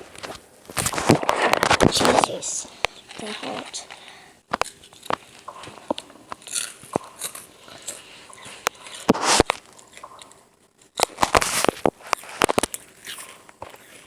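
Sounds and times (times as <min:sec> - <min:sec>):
loud crunching: 0:00.0 - 0:14.0.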